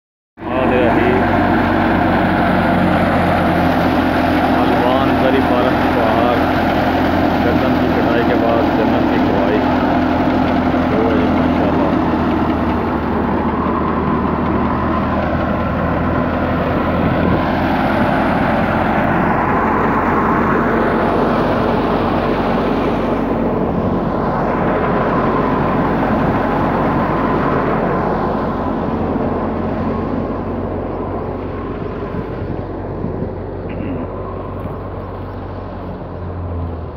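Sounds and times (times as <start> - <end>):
threshing machine rushing noise: 0.4 - 36.6
engine hum: 0.4 - 36.9.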